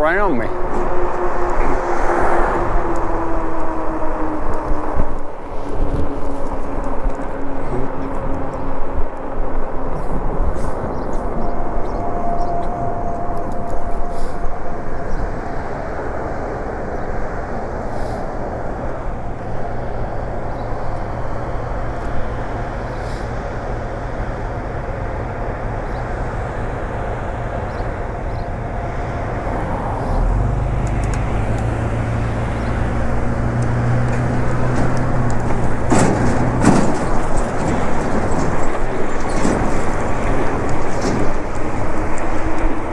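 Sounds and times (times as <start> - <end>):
vehicle engines humming: 0.0 - 42.9
wind rushing over microphone: 0.0 - 42.9.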